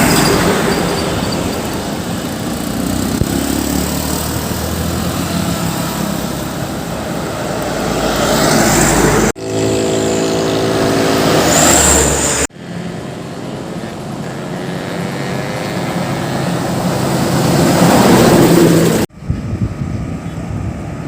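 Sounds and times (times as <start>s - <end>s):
diesel trucks driving past: 0.0s - 19.1s.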